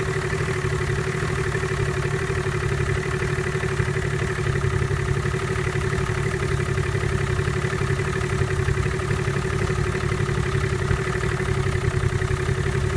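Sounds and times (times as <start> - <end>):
outboard motor idling: 0.0 - 12.9.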